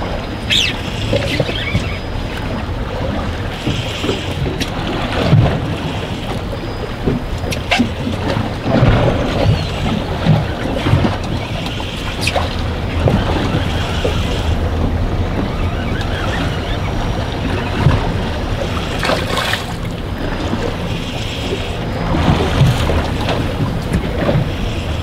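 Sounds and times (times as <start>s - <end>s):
waves slapping boat hull: 0.0s - 25.0s
wind buffeting microphone: 0.0s - 25.0s.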